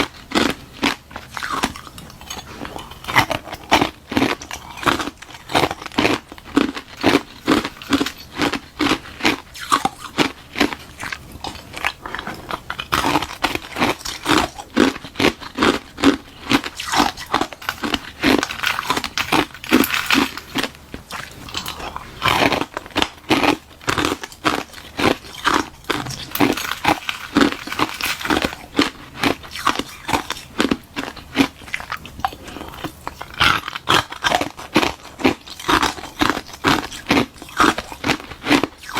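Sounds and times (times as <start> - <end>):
ice being chewed crunching: 0.0 - 38.9.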